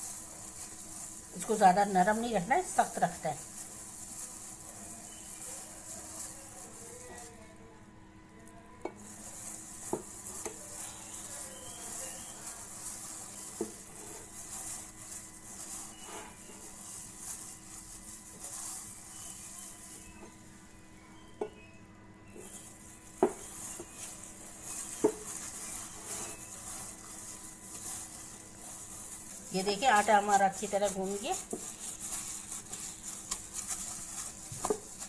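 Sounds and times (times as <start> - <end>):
gloved hand kneading dough: 0.0 - 35.0.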